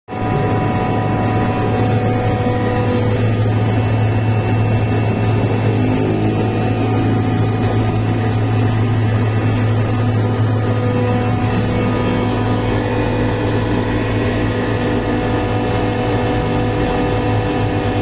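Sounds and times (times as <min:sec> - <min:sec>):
air compressor running: 0:00.1 - 0:18.0.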